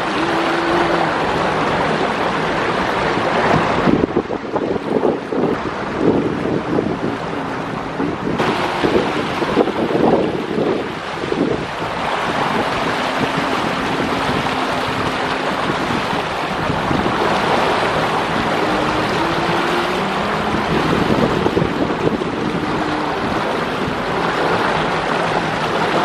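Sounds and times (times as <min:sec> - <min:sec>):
boat engines running: 0:00.0 - 0:26.0
water rushing along hulls: 0:00.0 - 0:26.0
wind on microphone: 0:00.0 - 0:26.0.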